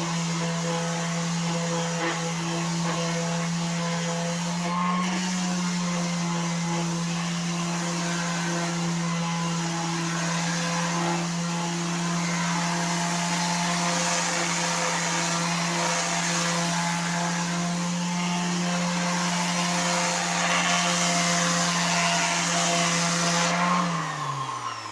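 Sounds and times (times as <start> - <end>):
electric sander sanding wood: 0.0 - 24.9.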